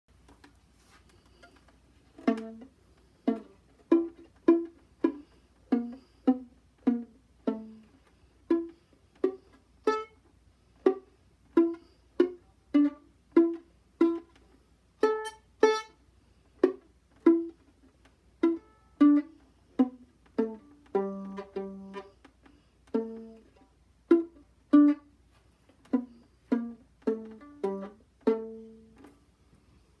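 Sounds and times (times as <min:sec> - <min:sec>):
violin played pizzicato: 0:00.3 - 0:30.0.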